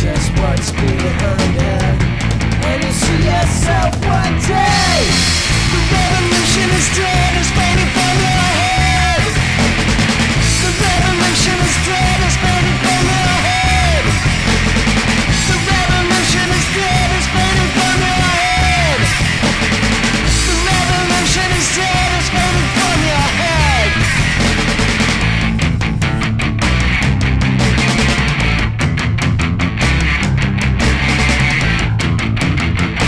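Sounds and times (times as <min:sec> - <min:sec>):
punk rock music: 0:00.0 - 0:33.0.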